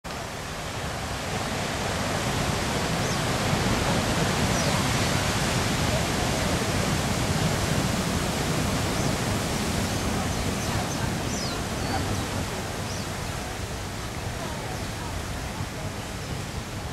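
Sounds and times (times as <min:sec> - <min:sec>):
surf breaking over rocks: 0:00.1 - 0:16.9.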